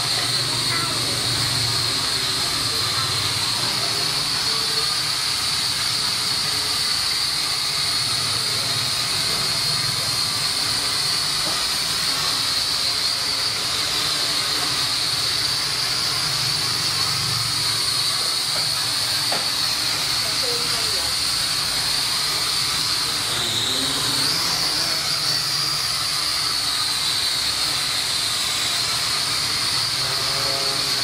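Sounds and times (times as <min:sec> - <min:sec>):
toy drone propellers whirring: 0:00.0 - 0:31.0.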